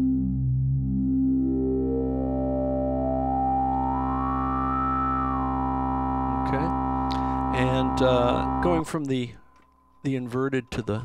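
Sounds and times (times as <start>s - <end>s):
synthesizer drone with filter sweep: 0.0s - 8.9s.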